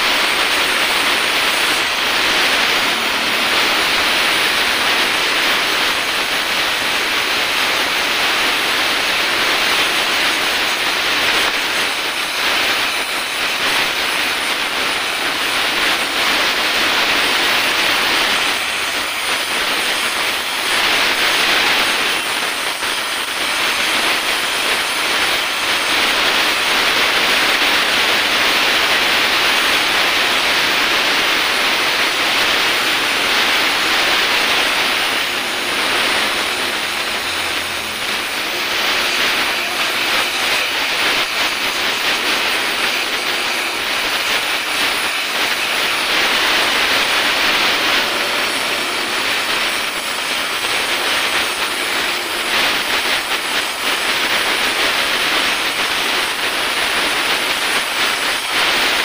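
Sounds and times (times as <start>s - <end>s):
welding torch hissing: 0.0s - 59.0s.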